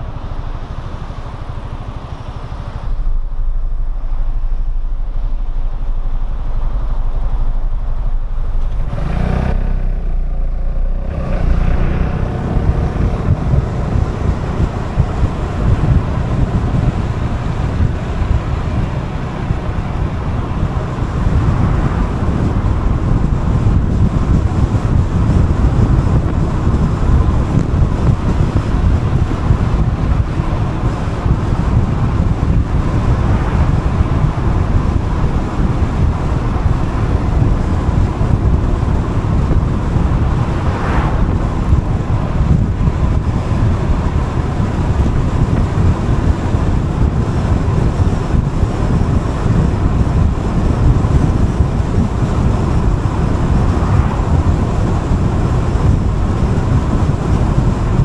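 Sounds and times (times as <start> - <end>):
road noise: 0.0 - 58.0
scooter engine: 0.0 - 58.0
wind buffeting microphone: 0.0 - 58.0.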